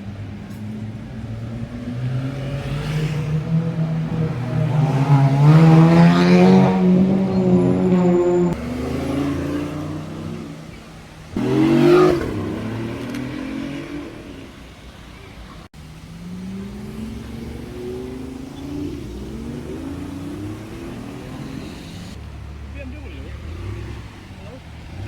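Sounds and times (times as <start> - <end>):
sports car engines revving: 0.0 - 25.0.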